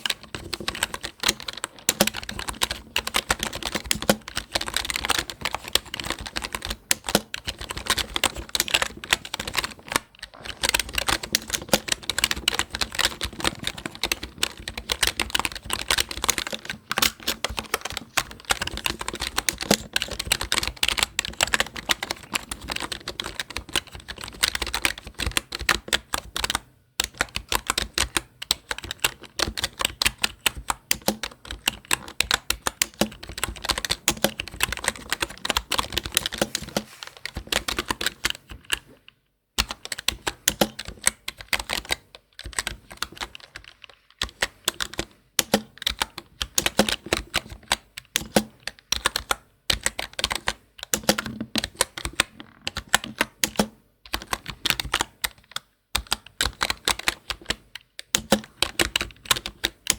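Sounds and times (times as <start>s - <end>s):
typing on computer keyboard: 0.0s - 59.9s.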